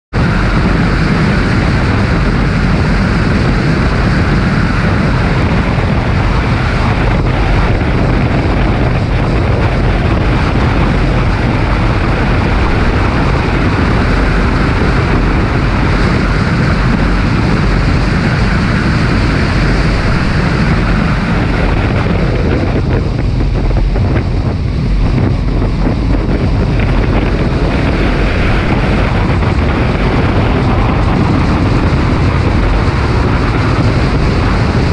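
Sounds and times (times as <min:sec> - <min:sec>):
car engine at speed: 0:00.1 - 0:34.9
wind buffeting microphone: 0:00.1 - 0:34.9.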